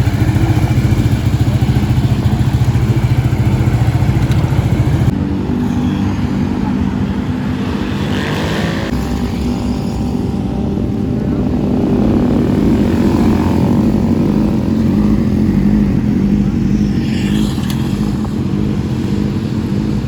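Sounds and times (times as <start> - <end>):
engine revving: 0.0 - 20.0
engine running with low throb: 0.0 - 20.0.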